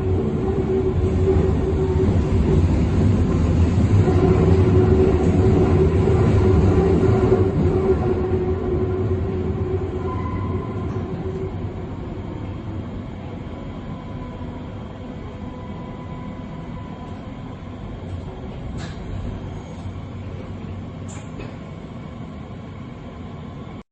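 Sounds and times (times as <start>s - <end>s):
subway train rumbling: 0.0s - 23.8s.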